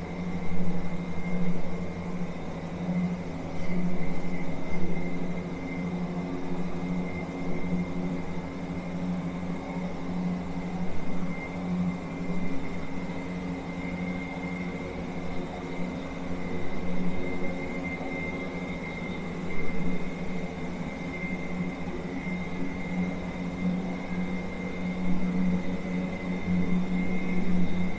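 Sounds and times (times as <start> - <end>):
mechanical hum: 0.0 - 27.9.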